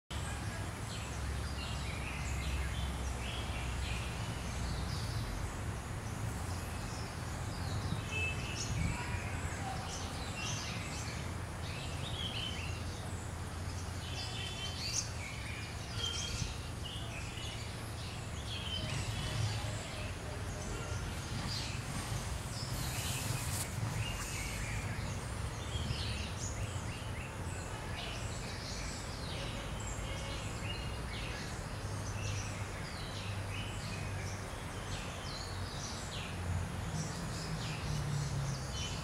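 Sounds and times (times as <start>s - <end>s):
birds chirping: 0.1s - 39.0s.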